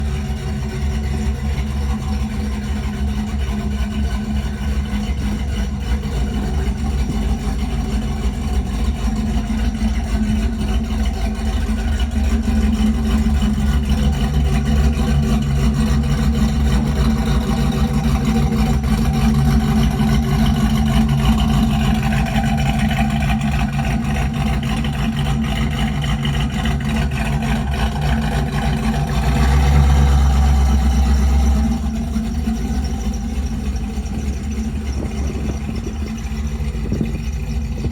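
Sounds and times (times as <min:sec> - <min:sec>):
truck engine idling deep rumble: 0:00.0 - 0:37.9.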